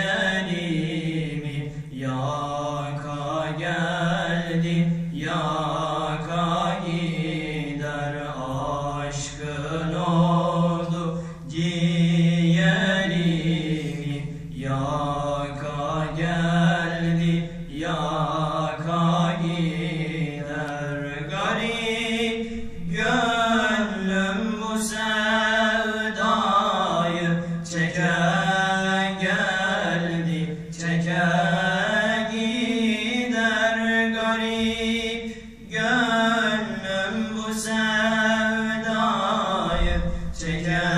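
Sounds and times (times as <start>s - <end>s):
man singing a hymn: 0.0s - 40.9s.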